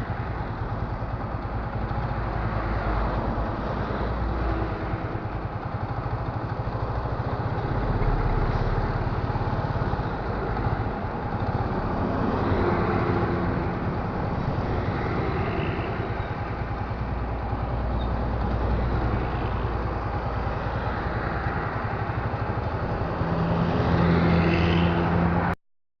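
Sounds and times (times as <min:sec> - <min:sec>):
trucks and vehicles passing: 0:00.0 - 0:25.6.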